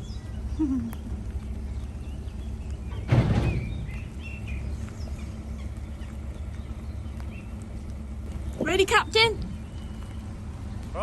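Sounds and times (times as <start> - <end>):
birds chirping faintly: 0.0 - 11.0
diesel engine idling: 0.0 - 11.0.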